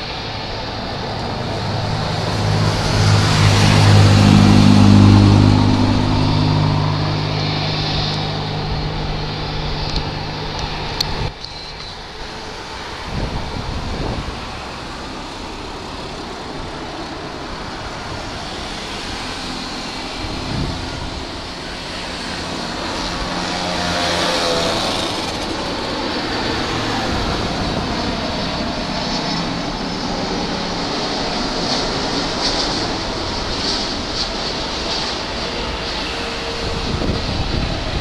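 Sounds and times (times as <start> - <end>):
high jet whine: 0.0 - 38.0
jet engines roaring: 0.0 - 38.0.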